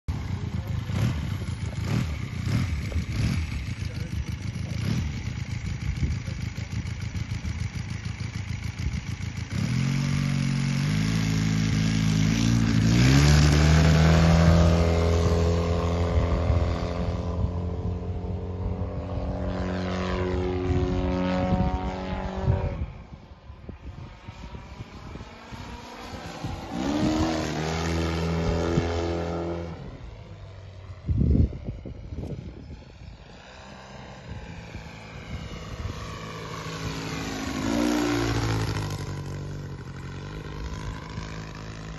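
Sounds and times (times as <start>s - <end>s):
model airplane engine and propeller: 0.1s - 41.9s.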